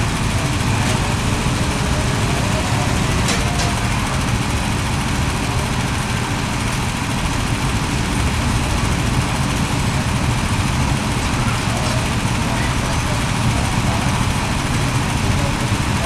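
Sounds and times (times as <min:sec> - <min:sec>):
go-kart engines droning: 0:00.0 - 0:16.0.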